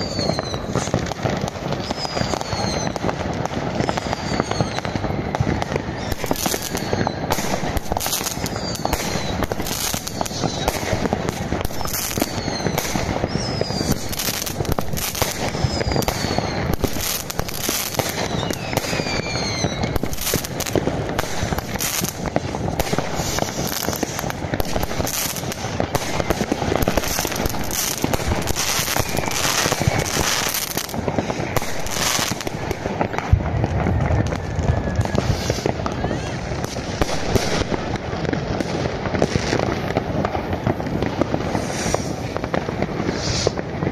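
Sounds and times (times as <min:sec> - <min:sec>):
falling firework whistles: 0:00.0 - 0:43.9
fireworks bangs and crackling: 0:00.0 - 0:43.9.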